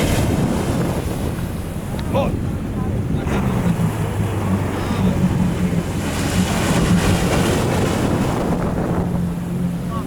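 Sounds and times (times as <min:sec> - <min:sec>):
surf washing: 0:00.0 - 0:10.0
wind buffeting microphone: 0:00.0 - 0:10.0
boat engine idling: 0:00.1 - 0:10.0.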